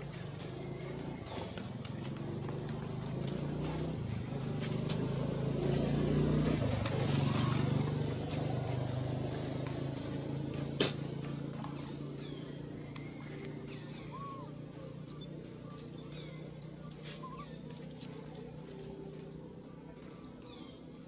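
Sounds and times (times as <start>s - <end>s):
passing motor vehicle engine hum: 0.0s - 21.0s.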